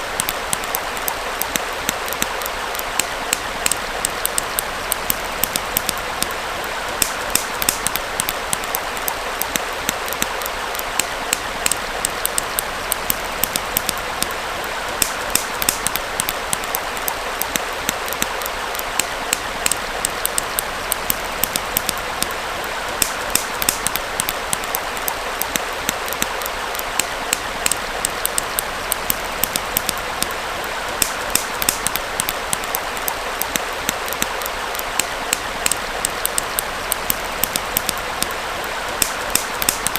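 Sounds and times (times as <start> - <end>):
campfire crackling and popping: 0.0 - 39.9
small stream flowing: 0.0 - 39.9.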